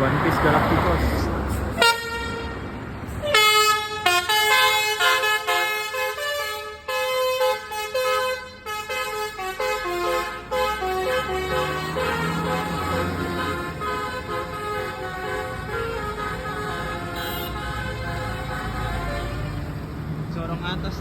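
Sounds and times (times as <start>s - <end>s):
multi-tone musical bus horn: 1.7s - 19.9s.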